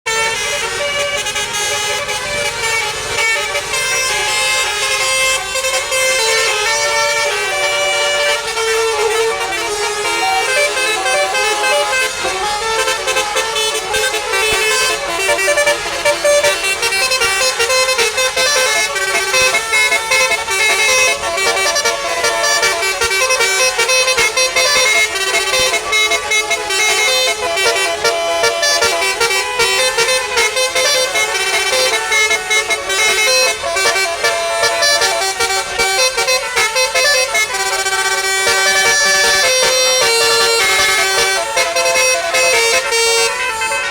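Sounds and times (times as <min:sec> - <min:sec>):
bus horn playing a tune: 0:00.0 - 0:43.9.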